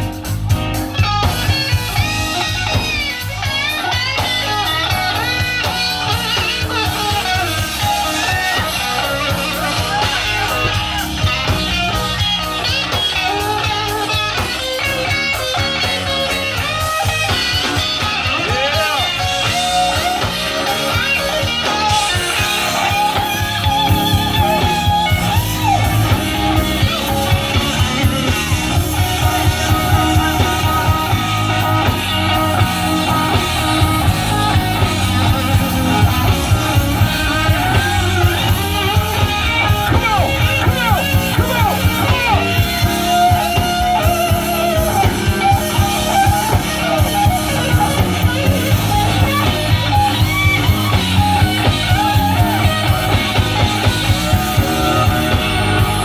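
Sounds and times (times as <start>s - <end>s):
bass: 0.0s - 56.0s
drums beat: 0.0s - 56.0s
guitar: 0.0s - 56.0s.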